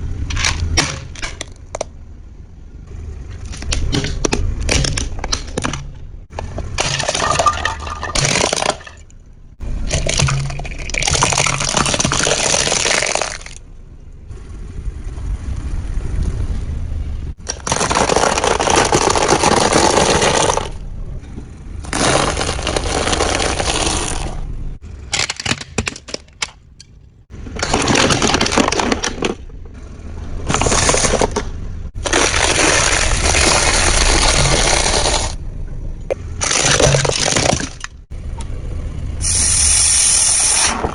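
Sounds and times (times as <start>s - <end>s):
objects cracking under a car: 0.0s - 13.7s, 17.3s - 35.4s, 36.0s - 38.1s.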